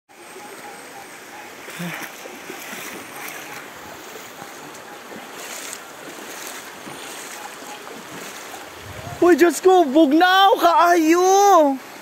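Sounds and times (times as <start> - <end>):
stream running over rocks: 0.1 - 12.0.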